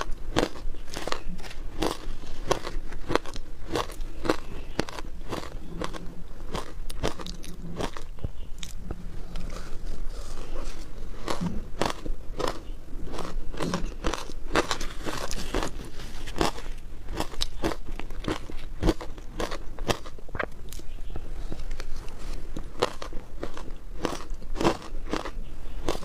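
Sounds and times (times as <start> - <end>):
ice crunching in mouth: 0.0 - 8.8, 11.2 - 20.8, 21.8 - 26.0.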